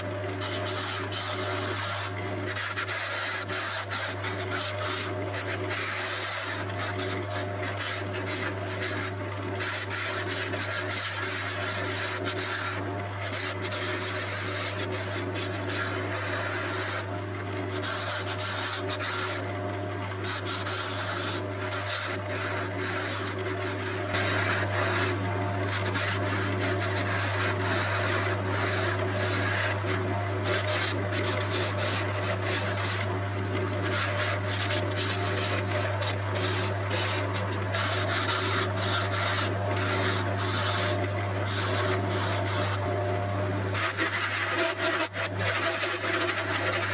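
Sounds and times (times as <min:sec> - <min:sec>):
chisel scraping wood: 0:00.0 - 0:19.5, 0:20.2 - 0:42.8, 0:43.7 - 0:46.9
lathe motor hum: 0:00.0 - 0:46.9.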